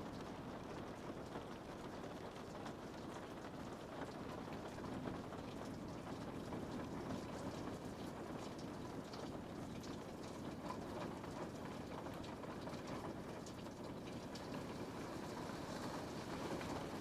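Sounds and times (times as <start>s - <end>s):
rain on window pane: 0.0s - 17.0s.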